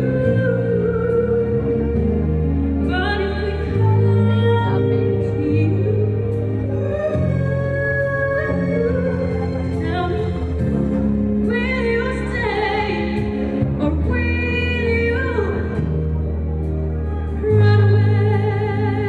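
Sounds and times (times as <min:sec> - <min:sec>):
sustained accompaniment chords: 0:00.0 - 0:19.0
woman singing a ballad: 0:00.0 - 0:19.0.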